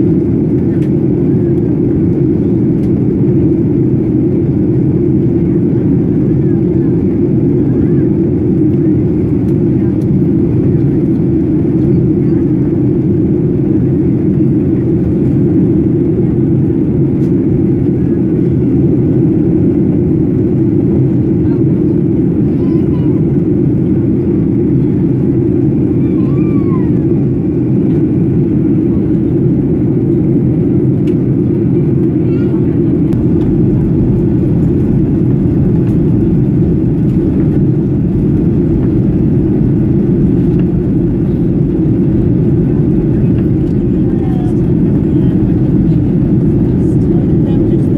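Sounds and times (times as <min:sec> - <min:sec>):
airliner cabin drone: 0:00.0 - 0:47.9.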